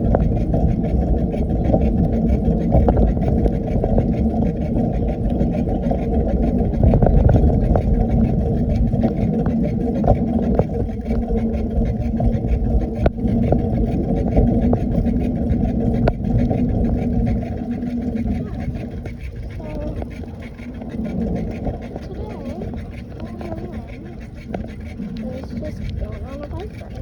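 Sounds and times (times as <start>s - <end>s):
wind rumble on microphone: 0.0s - 27.0s.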